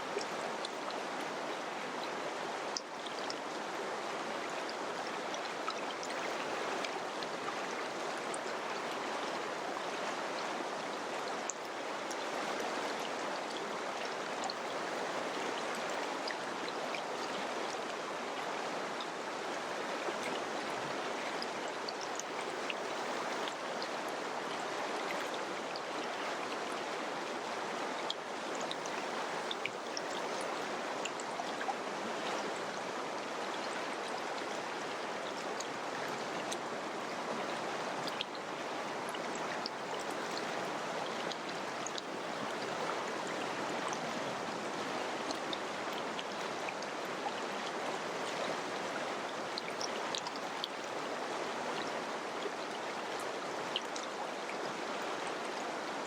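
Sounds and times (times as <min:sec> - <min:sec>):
water splashes and gurgles: 0:00.0 - 0:56.0.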